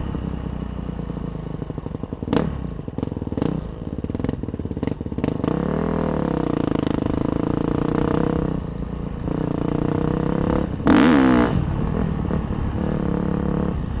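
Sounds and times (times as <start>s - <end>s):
dirt bike engine revving: 2.3s - 14.0s.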